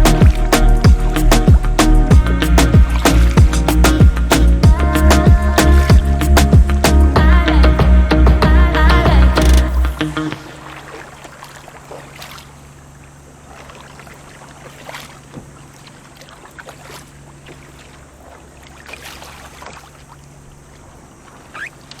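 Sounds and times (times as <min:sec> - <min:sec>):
paddle splashing: 0:00.0 - 0:07.1, 0:10.2 - 0:22.0
steady low hum: 0:00.0 - 0:18.7.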